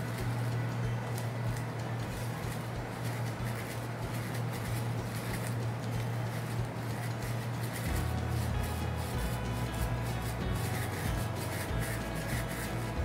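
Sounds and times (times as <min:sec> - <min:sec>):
paint roller rolling through wet paint: 0:00.0 - 0:13.0
steady low hum: 0:00.0 - 0:13.0.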